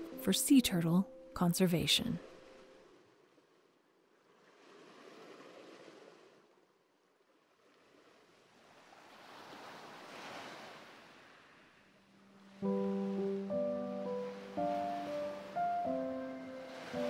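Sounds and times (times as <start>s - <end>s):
faint sea waves washing: 0.0s - 17.0s.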